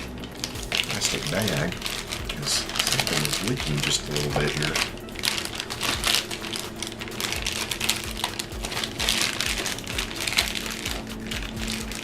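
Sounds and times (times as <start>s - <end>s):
low hum: 0.0s - 12.0s
plastic bag crinkling: 0.0s - 12.0s.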